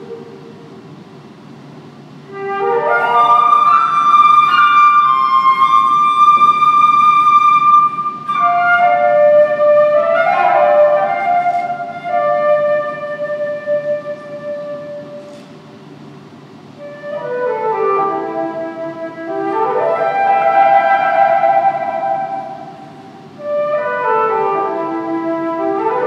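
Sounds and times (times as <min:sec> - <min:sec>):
solo flute melody: 0:00.0 - 0:00.9, 0:02.2 - 0:15.6, 0:16.7 - 0:26.0.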